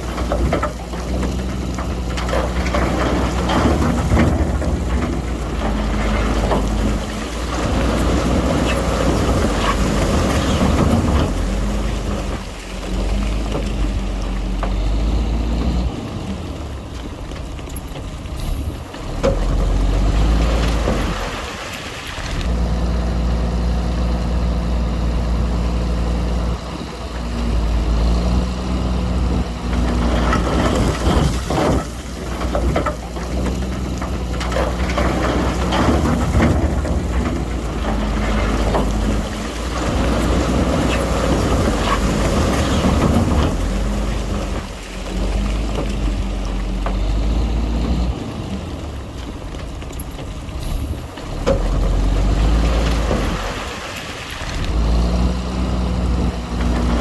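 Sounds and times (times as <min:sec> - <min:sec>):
diesel engine under load: 0:00.0 - 0:57.0.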